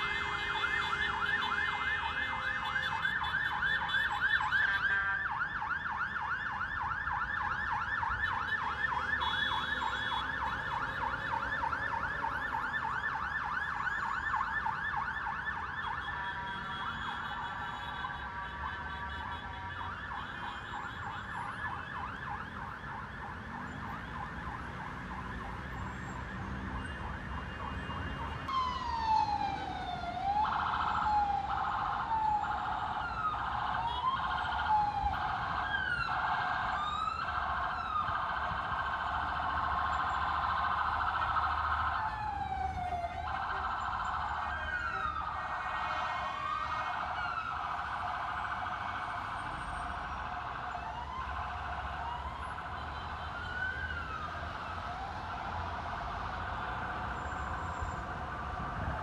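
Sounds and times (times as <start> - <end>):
emergency vehicle sirens: 0.0 - 59.0
low traffic rumble: 0.0 - 59.0.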